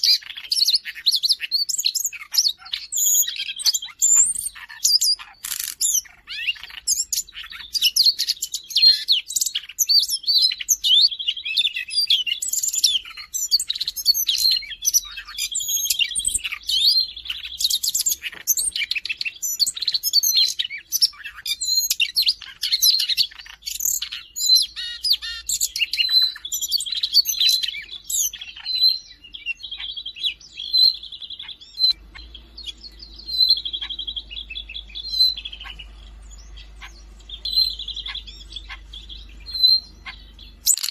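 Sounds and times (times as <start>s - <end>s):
bird singing varied song: 0.0s - 40.9s.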